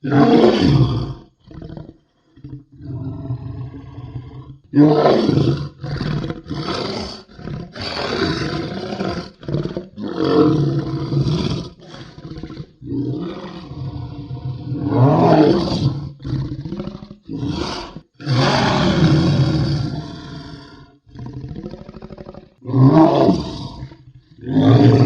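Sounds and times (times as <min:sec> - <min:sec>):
creature roaring and growling: 0:00.0 - 0:25.0.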